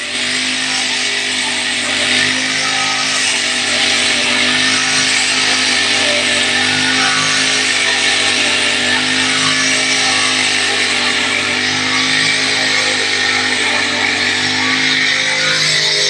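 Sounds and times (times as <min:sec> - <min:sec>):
brush cutter engine running: 0:00.0 - 0:16.0.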